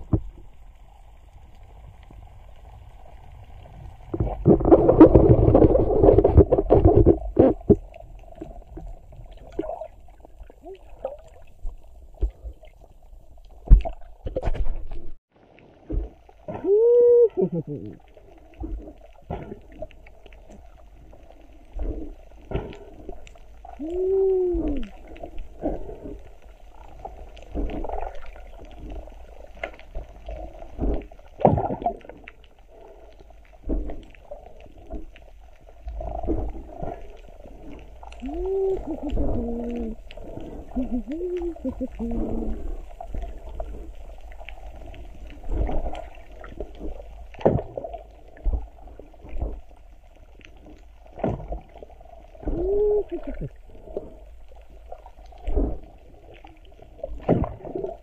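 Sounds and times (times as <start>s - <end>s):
muffled underwater sound: 0.0s - 58.0s.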